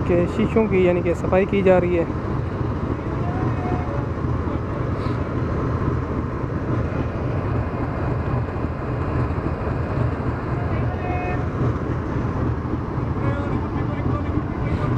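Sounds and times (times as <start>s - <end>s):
diesel locomotive idling: 0.0s - 14.9s.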